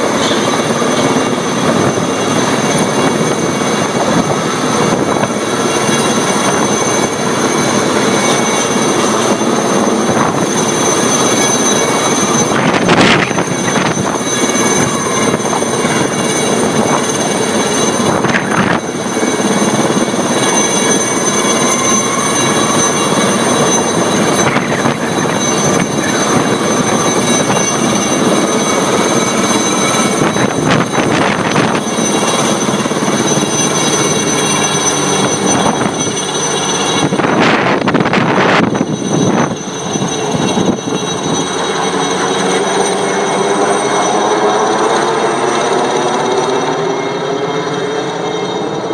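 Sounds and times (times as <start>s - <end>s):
helicopter rotor noise: 0.0s - 48.9s
high turbine whine: 0.0s - 48.9s.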